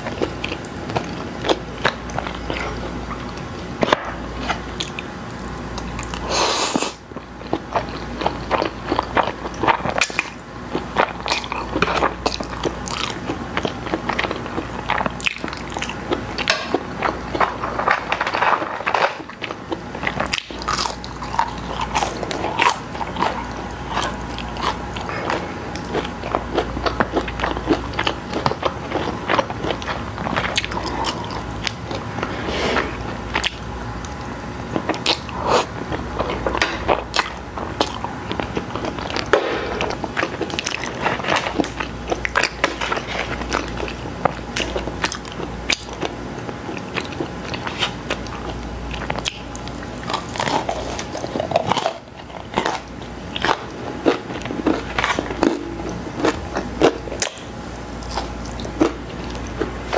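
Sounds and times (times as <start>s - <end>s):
close chewing with mouth clicks: 0.0s - 17.6s, 18.6s - 59.9s.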